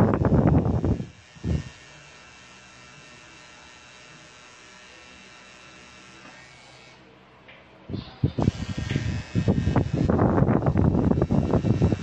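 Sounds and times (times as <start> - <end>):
tattoo machine buzzing: 0.0 - 7.1, 8.2 - 12.0.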